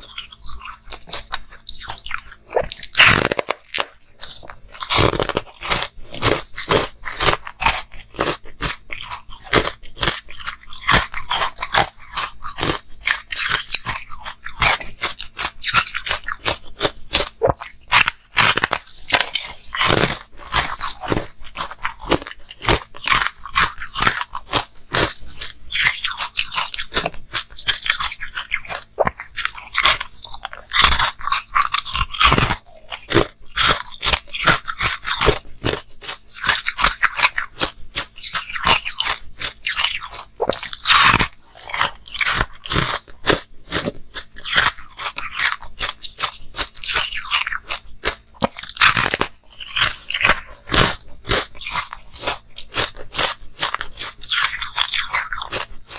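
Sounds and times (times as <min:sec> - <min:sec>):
crunching frozen chunk: 0:02.6 - 0:55.9.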